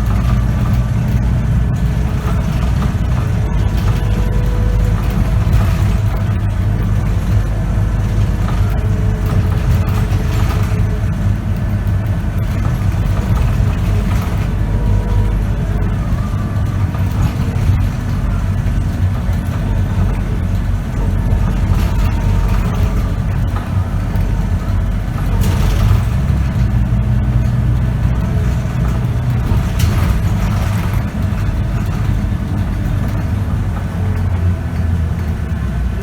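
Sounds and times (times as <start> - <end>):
bus engine rumbling: 0.0 - 36.0
faint gearbox whine: 0.0 - 36.0.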